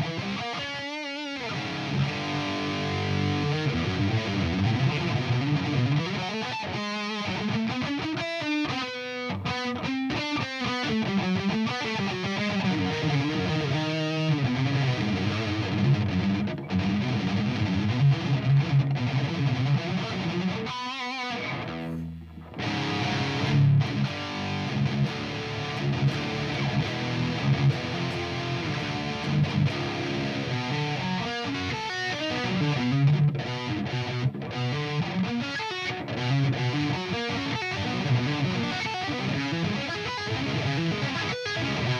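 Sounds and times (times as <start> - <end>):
distorted electric guitar riffs: 0.0 - 41.9.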